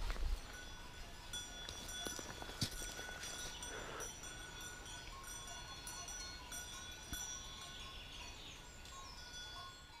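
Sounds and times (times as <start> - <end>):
thin steady high tones: 0.4 - 10.0.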